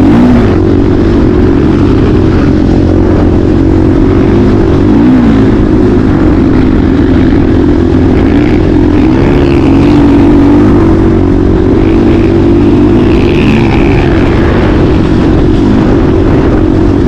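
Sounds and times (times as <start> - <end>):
motocross bike engine: 0.0 - 17.0.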